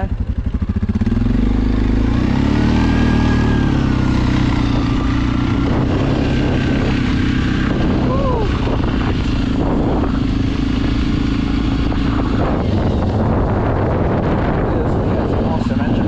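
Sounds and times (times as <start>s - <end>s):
quad bike engine accelerating: 0.0s - 16.0s.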